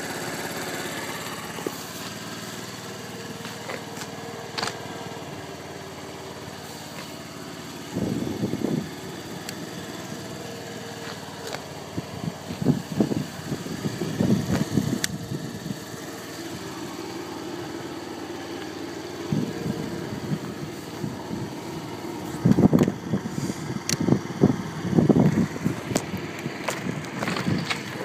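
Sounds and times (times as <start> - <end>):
scooter engine idling: 0.0 - 28.0
low rumbles: 1.0 - 28.0.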